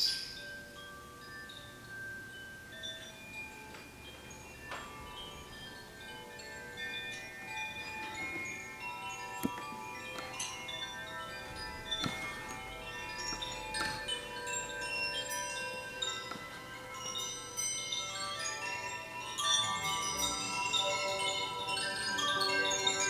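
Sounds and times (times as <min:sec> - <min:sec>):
chimes ringing: 0:00.0 - 0:23.0.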